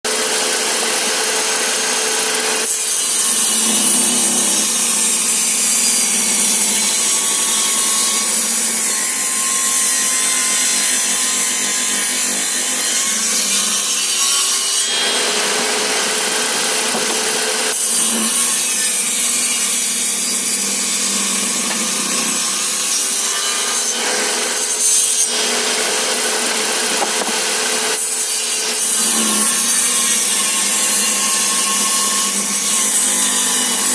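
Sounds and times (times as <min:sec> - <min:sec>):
circular saw cutting wood: 0:00.1 - 0:33.9.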